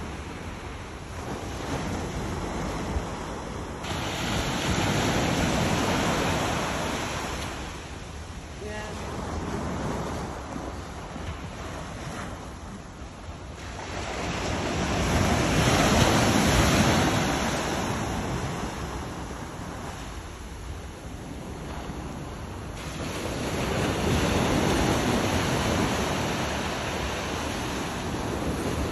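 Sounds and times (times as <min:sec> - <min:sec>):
waves breaking on sandy beach: 0:00.0 - 0:28.9.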